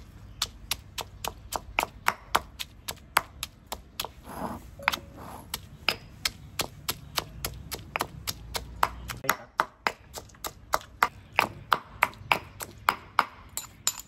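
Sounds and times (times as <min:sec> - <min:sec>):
stone pestle pounding in mortar: 0:00.3 - 0:14.0.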